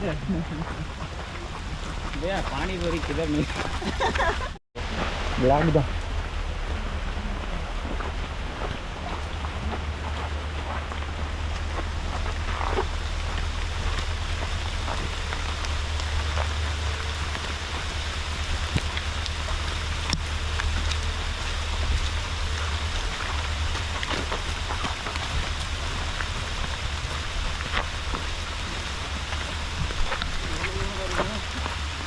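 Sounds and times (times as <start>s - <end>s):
low rumble: 0.0s - 32.0s
steady rain hissing: 0.0s - 32.0s.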